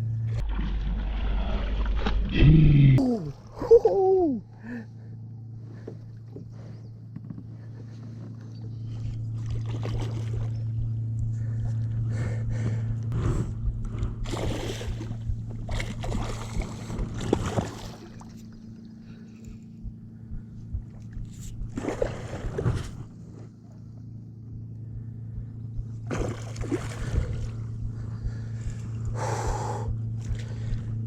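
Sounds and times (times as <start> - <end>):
water splashing and sloshing: 0.0 - 3.9, 5.7 - 24.2, 25.8 - 31.0
steady low hum: 0.0 - 31.0.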